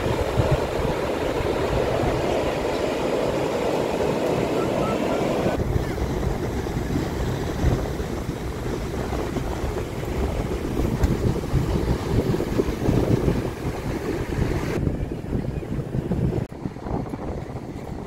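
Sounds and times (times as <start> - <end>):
surf breaking on beach: 0.0 - 14.8
wind buffeting microphone: 0.0 - 18.0.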